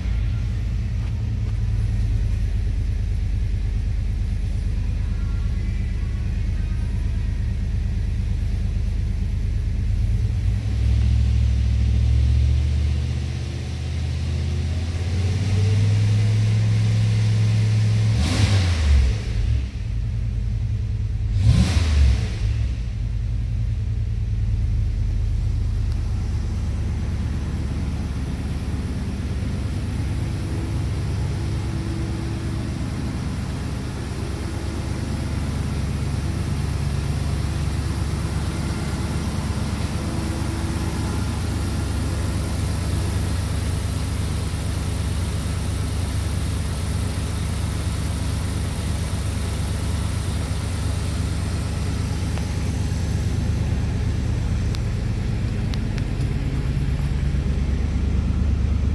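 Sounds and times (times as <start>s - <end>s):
truck engine idling: 0.0s - 17.8s, 22.6s - 58.9s.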